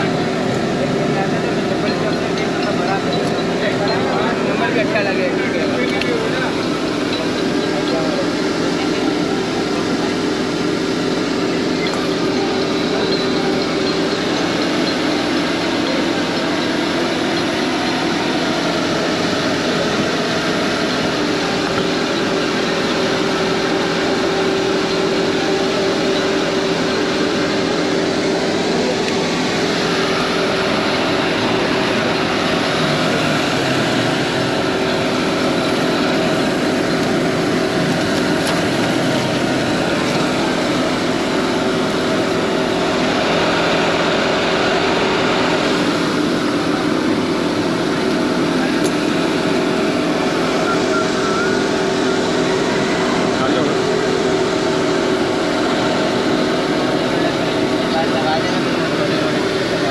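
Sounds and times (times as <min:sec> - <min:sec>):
machine running: 0:00.0 - 0:59.9.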